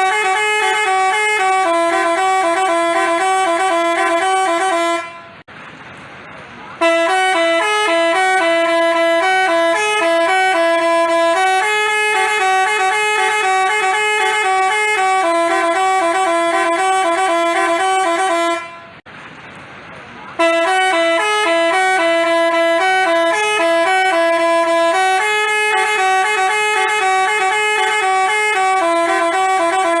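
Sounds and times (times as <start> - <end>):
multi-tone bus horn playing a tune: 0.0 - 5.5, 6.8 - 19.0, 20.3 - 30.0.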